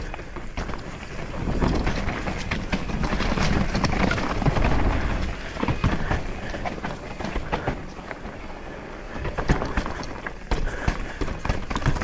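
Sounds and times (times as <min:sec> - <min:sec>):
bike rattling clicks and knocks: 0:00.0 - 0:12.0
bike tyres rumbling over rocks: 0:00.0 - 0:12.0.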